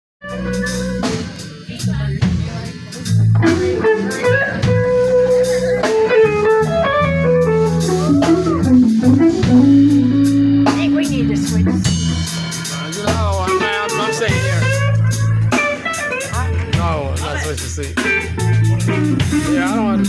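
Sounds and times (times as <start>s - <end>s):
bass guitar: 0.2s - 20.0s
drum kit: 0.2s - 20.0s
electric guitar melody: 0.2s - 20.0s.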